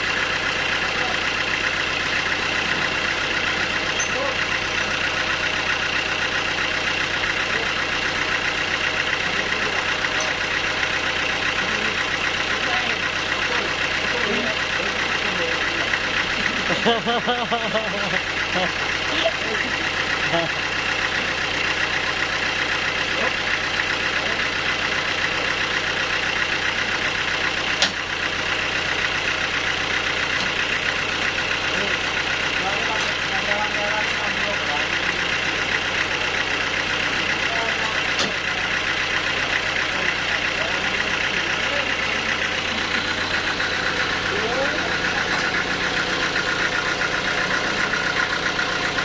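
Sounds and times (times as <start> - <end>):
sawmill machinery running: 0.0 - 49.0.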